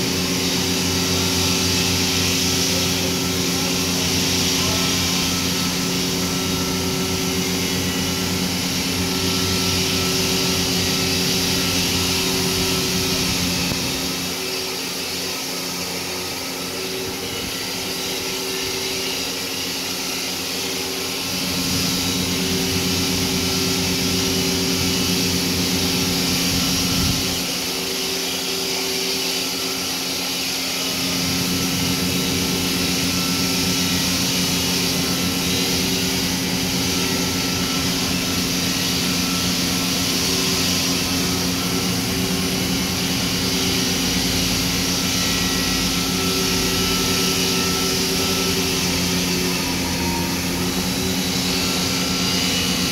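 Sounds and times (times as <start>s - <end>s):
hiss: 0.0s - 52.9s.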